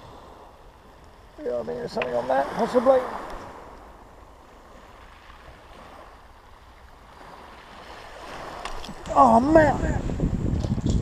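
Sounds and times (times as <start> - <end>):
small waves on shingle beach: 0.0 - 10.4
wind rumbling on microphone: 0.0 - 11.0.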